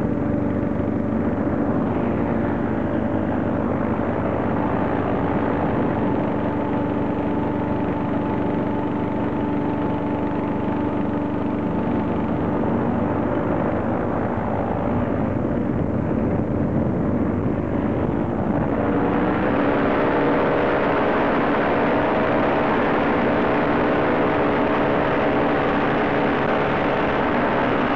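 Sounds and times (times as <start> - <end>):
hovercraft engine and propeller: 0.0 - 27.9.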